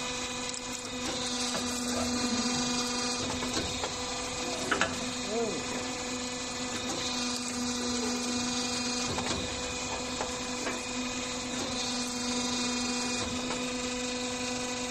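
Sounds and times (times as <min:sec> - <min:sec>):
machine humming: 0:00.0 - 0:14.9.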